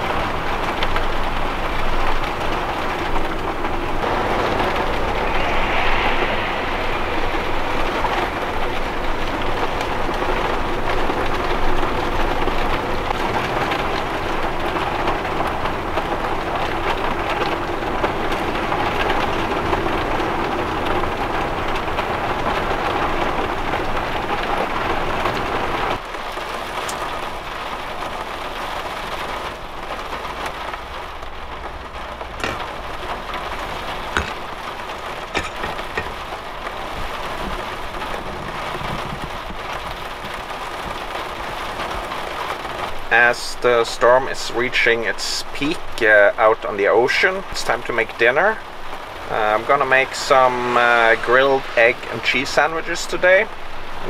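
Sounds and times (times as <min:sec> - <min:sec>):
rain drumming on vehicle roof: 0:00.0 - 0:04.8, 0:09.1 - 0:54.0
heavy storm rain and wind: 0:00.0 - 0:54.0.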